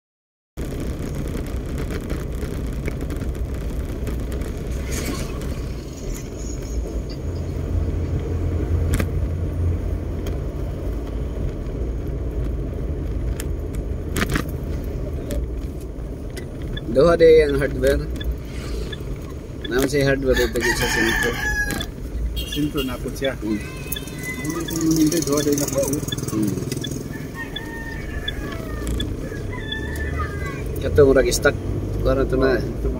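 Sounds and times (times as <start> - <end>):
road and engine rumble in car: 0.6 - 32.9.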